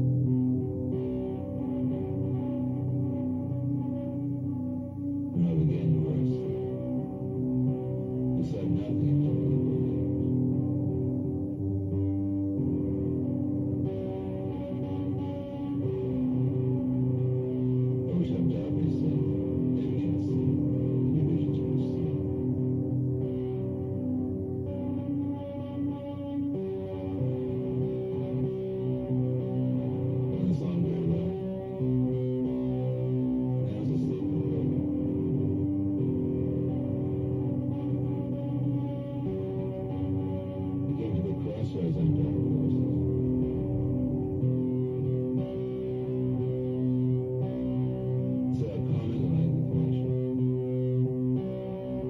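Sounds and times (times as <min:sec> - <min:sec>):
slow low music from loudspeaker: 0:00.0 - 0:52.0.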